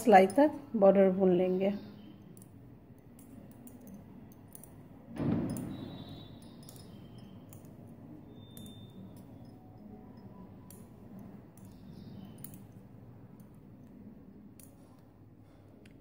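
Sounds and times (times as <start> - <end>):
low background noise: 0.0 - 16.0
knitting needles clicking: 2.2 - 15.1.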